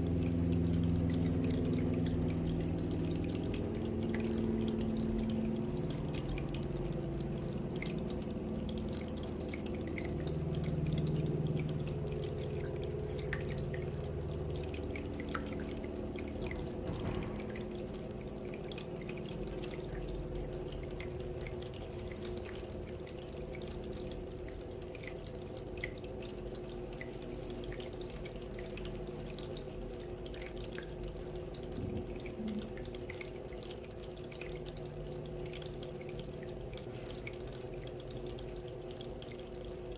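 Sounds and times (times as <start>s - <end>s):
fountain water trickling and dripping: 0.0s - 39.9s
low steady hum: 0.0s - 39.9s.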